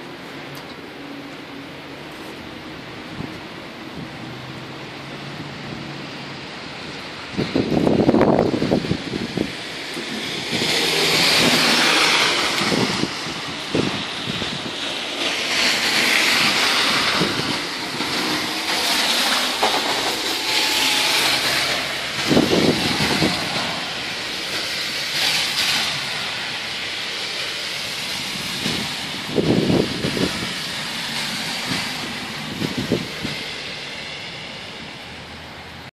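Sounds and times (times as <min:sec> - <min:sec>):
tyre hiss on slushy road: 0:01.5 - 0:35.9.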